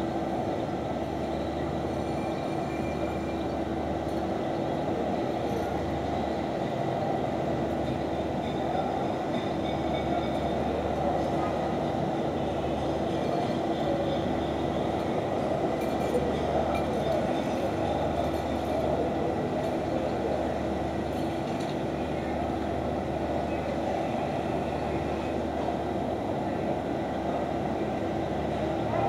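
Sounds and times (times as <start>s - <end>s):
city background hum: 0.0s - 29.0s.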